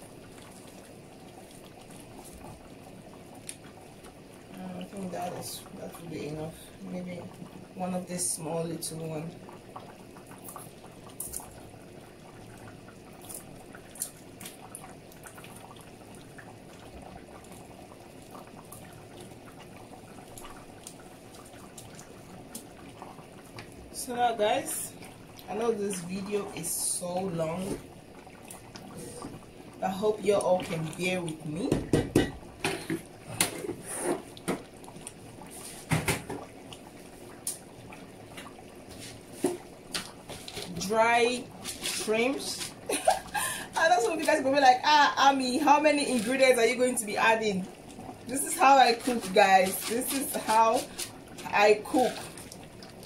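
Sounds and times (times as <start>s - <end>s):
stew bubbling in a pot: 0.0s - 53.0s.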